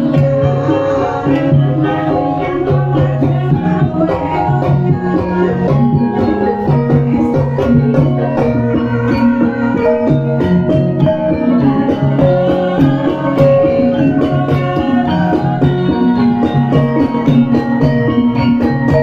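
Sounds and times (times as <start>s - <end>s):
metal keys struck with mallets: 0.0s - 19.0s.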